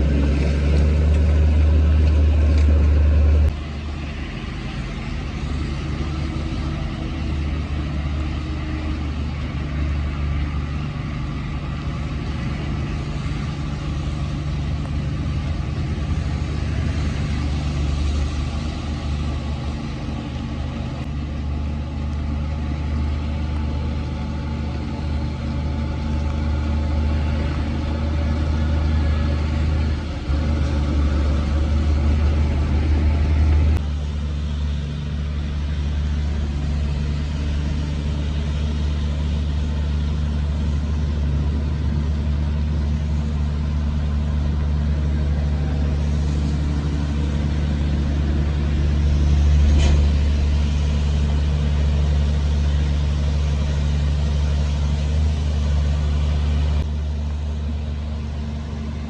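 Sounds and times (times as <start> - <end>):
diesel machinery engine rumbling: 0.0 - 59.0.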